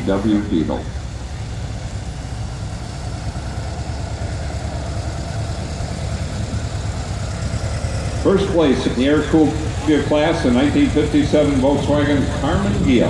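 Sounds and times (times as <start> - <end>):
bus engine running at low revs: 0.0 - 13.0.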